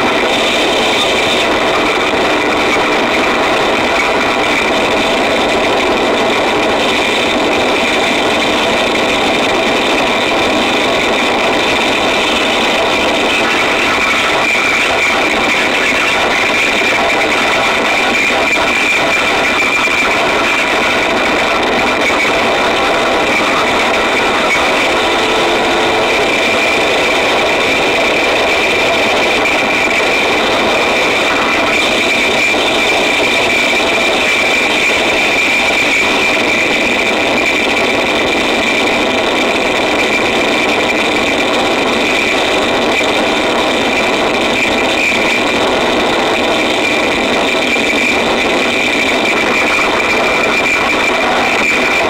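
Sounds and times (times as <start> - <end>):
harsh distorted noise roar: 0.0 - 52.0.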